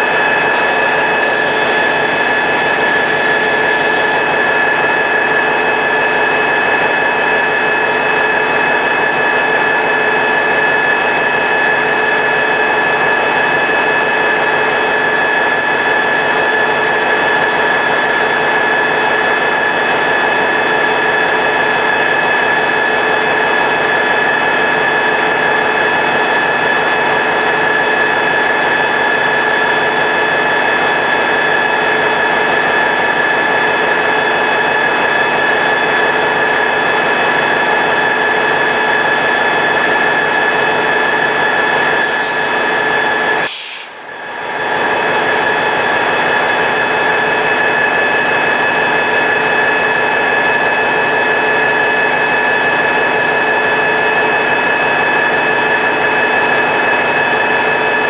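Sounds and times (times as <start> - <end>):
diesel locomotive engine running: 0.0 - 58.0
high engine whine: 0.0 - 58.0.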